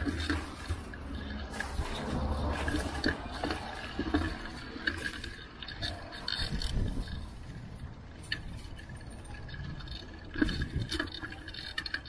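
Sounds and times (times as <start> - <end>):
bike rattles and clicks: 0.0 - 12.0
wind and road rumble: 0.0 - 12.0.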